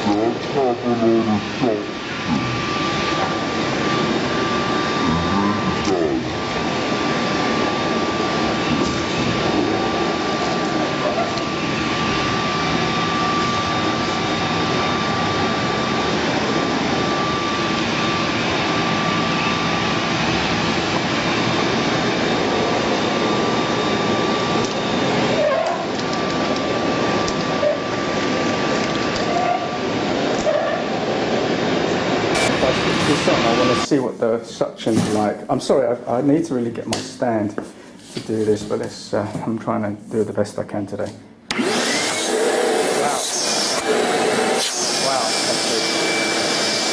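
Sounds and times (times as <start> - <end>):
shop vacuum running: 0.0 - 46.9.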